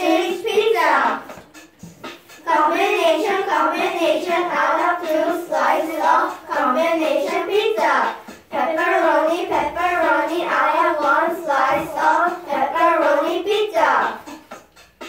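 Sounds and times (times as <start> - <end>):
children singing together: 0.0 - 14.6.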